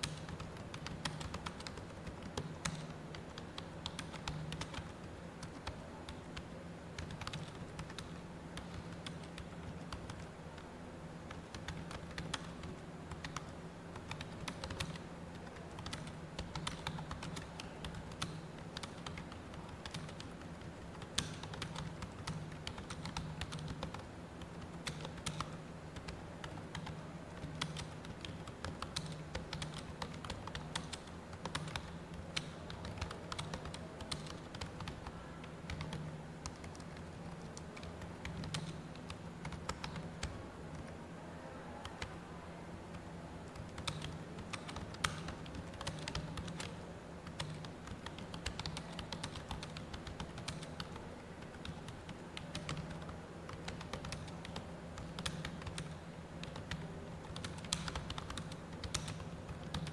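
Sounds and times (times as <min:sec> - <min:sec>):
keyboard typing: 0:00.0 - 0:41.0, 0:42.9 - 0:59.9
steady low hum: 0:00.0 - 0:59.9.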